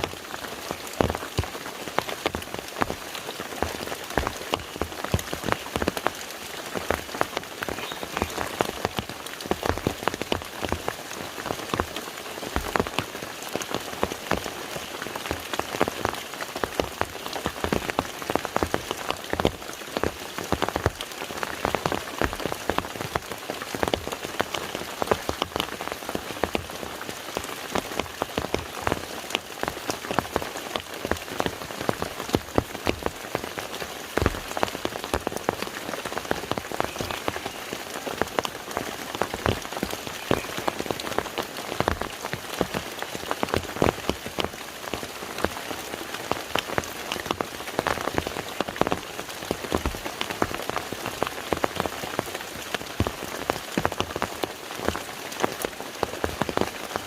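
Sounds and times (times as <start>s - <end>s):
rain falling on water: 0.0s - 57.0s.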